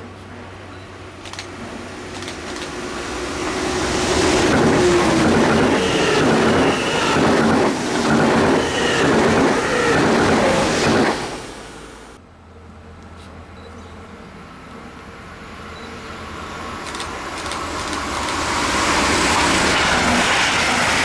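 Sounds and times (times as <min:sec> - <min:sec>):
high-speed train passing: 0:00.0 - 0:21.0.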